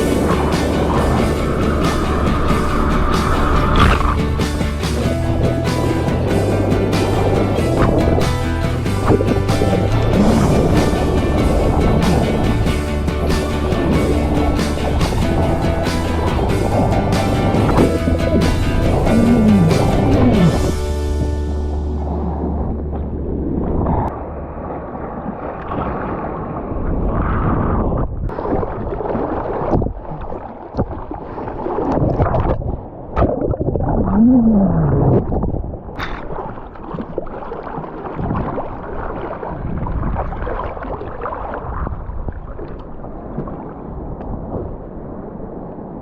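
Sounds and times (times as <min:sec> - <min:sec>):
wind buffeting microphone: 0:00.0 - 0:30.2, 0:30.8 - 0:37.0, 0:38.1 - 0:46.0
sea water sloshing: 0:00.0 - 0:46.0.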